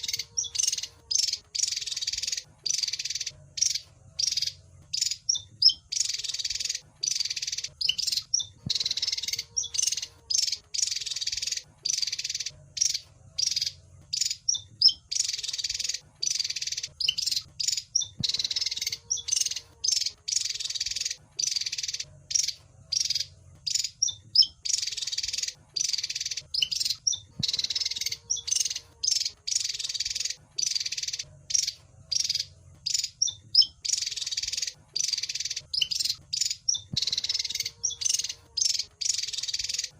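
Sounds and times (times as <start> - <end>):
bird high chirps and trills: 0.0 - 39.9.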